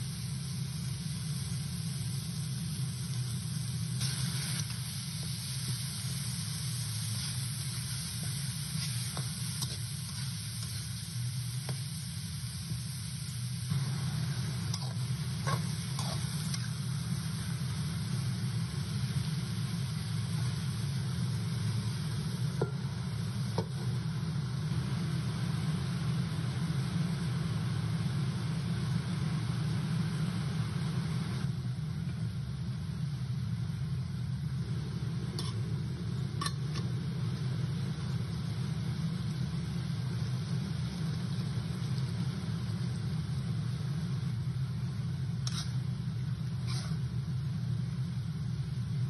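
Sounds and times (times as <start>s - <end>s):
constant low hum: 0.0s - 49.0s
pork sizzling in a wok: 0.0s - 49.0s.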